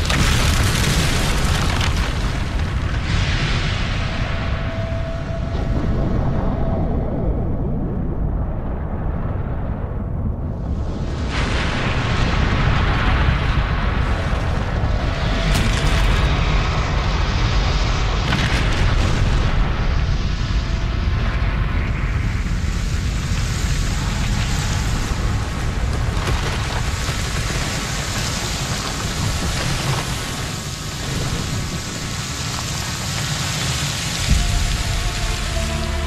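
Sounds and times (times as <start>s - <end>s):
hiss of shaking earth and debris: 0.0s - 9.5s, 10.3s - 36.0s
deep rumble: 0.0s - 36.0s.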